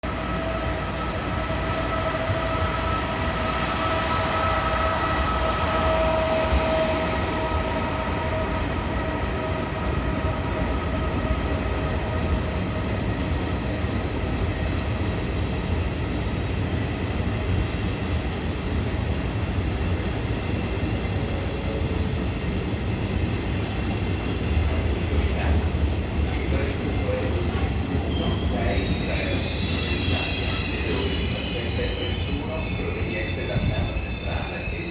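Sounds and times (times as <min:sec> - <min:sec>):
train rumbling: 0:00.0 - 0:34.9
train whine: 0:00.0 - 0:34.9.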